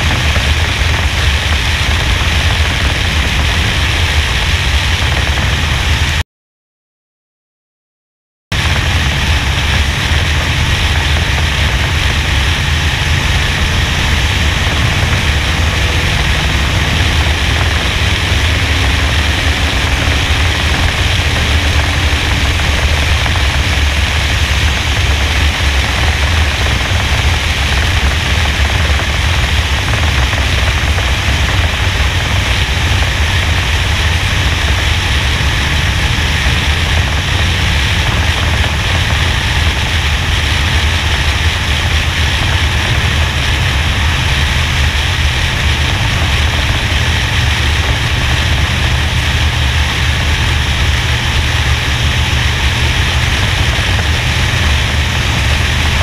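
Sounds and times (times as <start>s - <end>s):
race car engine drone: 0.0s - 6.2s, 8.5s - 56.0s
wind rush: 0.0s - 6.2s, 8.5s - 56.0s.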